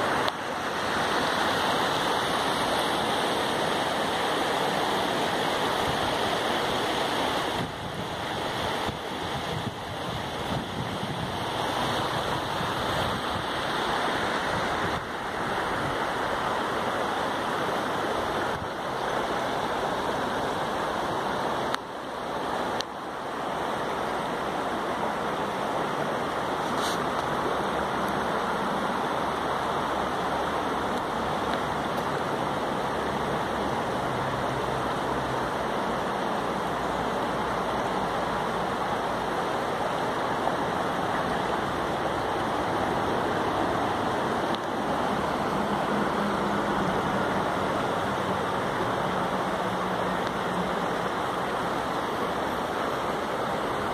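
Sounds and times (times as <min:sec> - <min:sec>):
river water over stones: 0:00.0 - 0:53.9.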